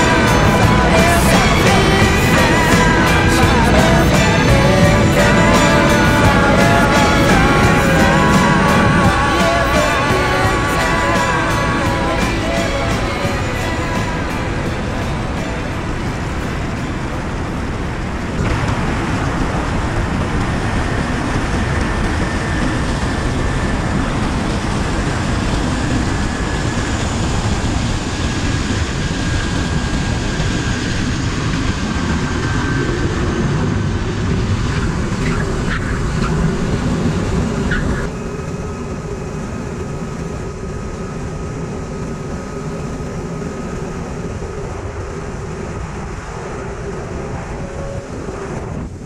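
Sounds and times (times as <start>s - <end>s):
heavy wind rush: 0.0s - 49.0s
high whine: 0.0s - 49.0s
turboprop engine and propeller: 0.0s - 49.0s.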